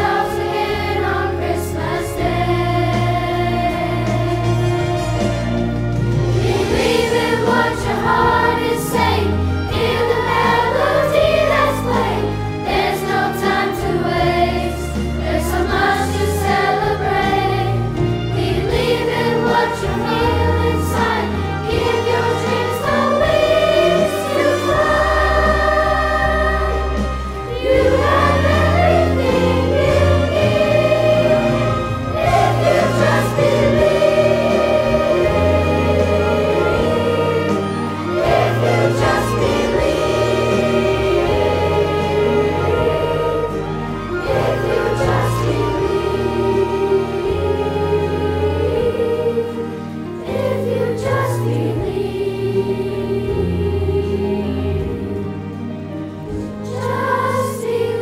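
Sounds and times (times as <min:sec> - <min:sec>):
chorus singing: 0:00.0 - 0:58.0
instrumental accompaniment: 0:00.0 - 0:58.0.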